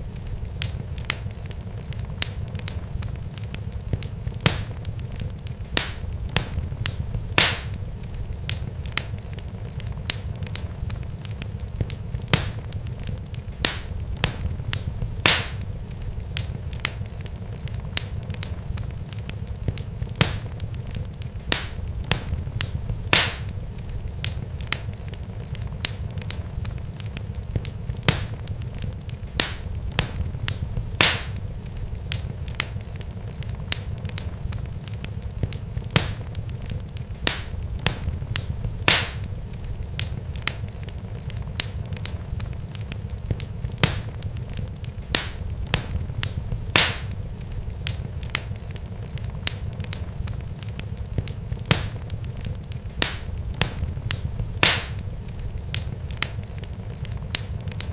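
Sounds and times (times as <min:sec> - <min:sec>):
sharp crackles and pops: 0:00.0 - 0:57.9.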